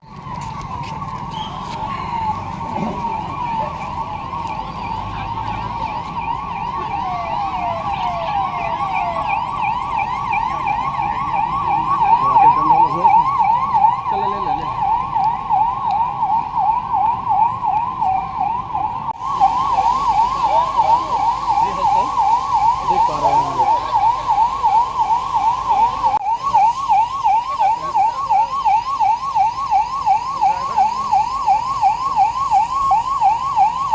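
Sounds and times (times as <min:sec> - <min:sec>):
electronic yelp siren: 0:00.0 - 0:33.9.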